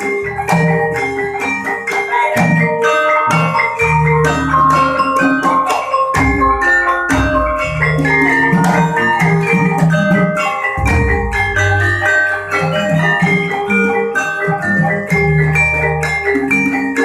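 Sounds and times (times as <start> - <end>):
metallophones struck rapidly: 0.0 - 17.0.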